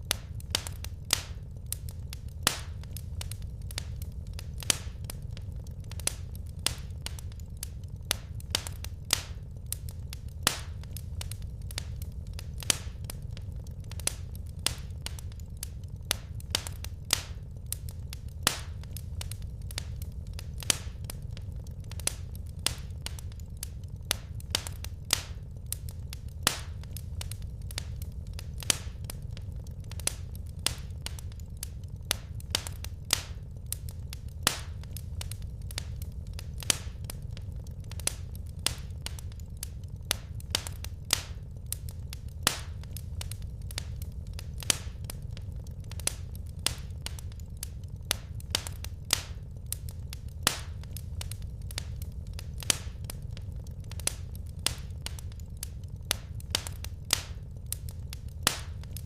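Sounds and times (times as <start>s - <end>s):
fire pops and snaps: 0.0s - 59.0s
low rumble of burning logs: 0.0s - 59.0s.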